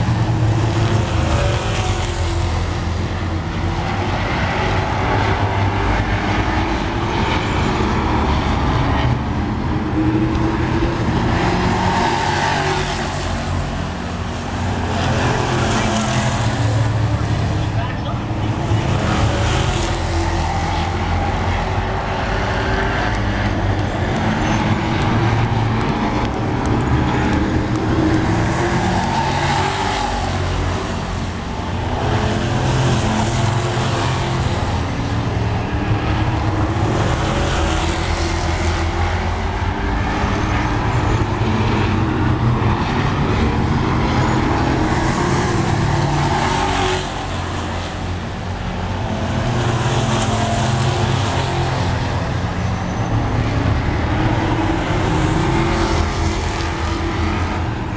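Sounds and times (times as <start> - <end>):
race truck engines passing: 0.0 - 57.9.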